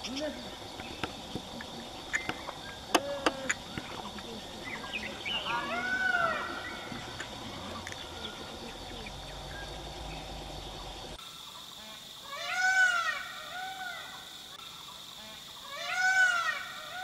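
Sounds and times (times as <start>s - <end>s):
animal calls: 0.0s - 11.2s, 11.8s - 17.0s
high insect whine: 0.0s - 17.0s.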